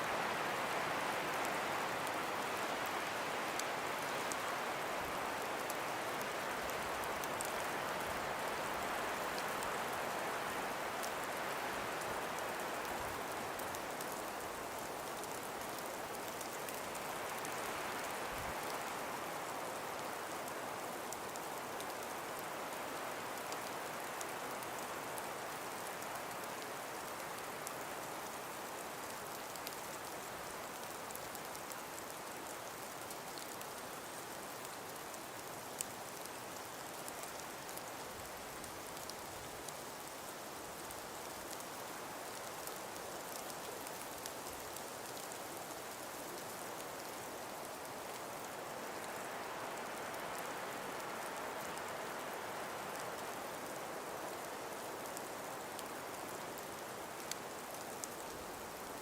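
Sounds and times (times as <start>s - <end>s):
breeze through trees: 0.0s - 59.0s
faint light ticks: 0.1s - 59.0s.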